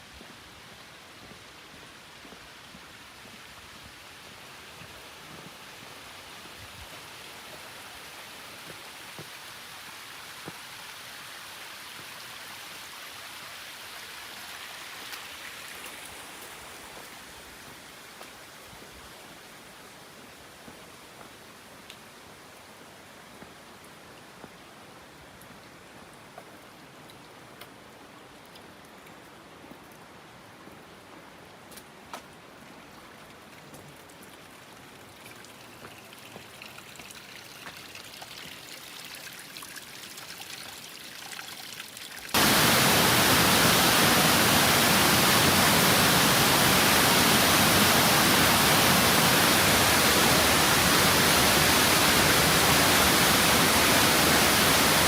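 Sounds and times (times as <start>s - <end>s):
waterfall close up: 0.0s - 31.2s, 32.4s - 55.0s
rushing water: 0.0s - 55.0s.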